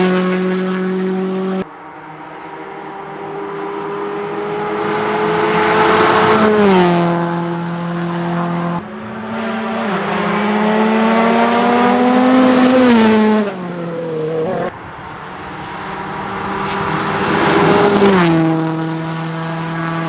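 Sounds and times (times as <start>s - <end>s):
rally car engine passing: 0.0s - 20.0s.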